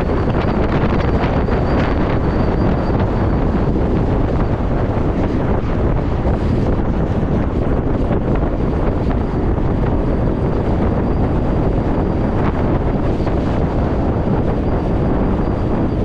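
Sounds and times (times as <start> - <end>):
faint high whine: 0.0 - 16.0
wind buffeting microphone: 0.0 - 16.0.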